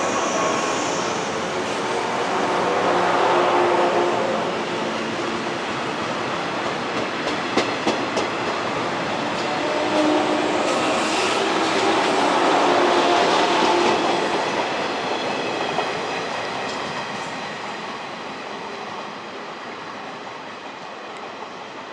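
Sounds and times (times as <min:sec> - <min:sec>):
train wheels on rails: 0:00.0 - 0:21.9.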